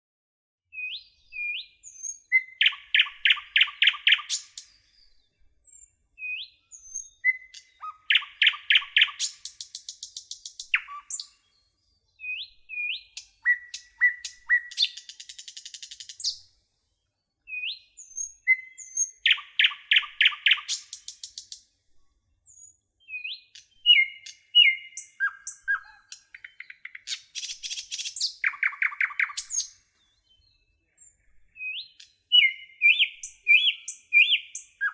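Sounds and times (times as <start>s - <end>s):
nightingale singing: 0.7s - 16.5s, 17.4s - 21.6s, 22.5s - 34.9s.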